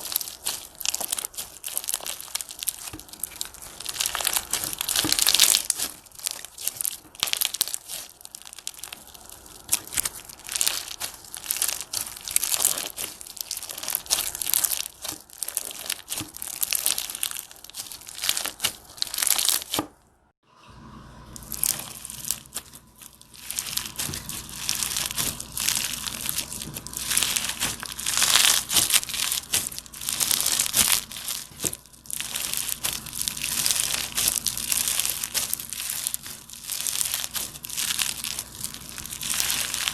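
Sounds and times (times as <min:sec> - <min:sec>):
slime squeezed crackling: 0:00.0 - 0:20.0, 0:21.4 - 0:39.9.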